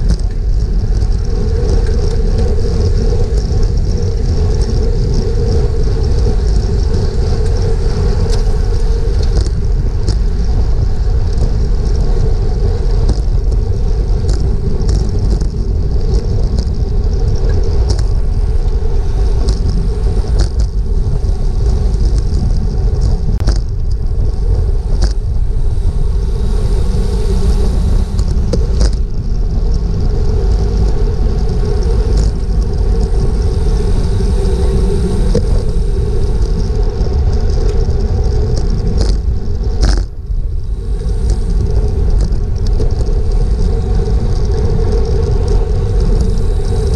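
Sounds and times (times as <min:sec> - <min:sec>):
tyre noise on asphalt: 0:00.0 - 0:46.9
wind buffeting microphone: 0:00.0 - 0:46.9.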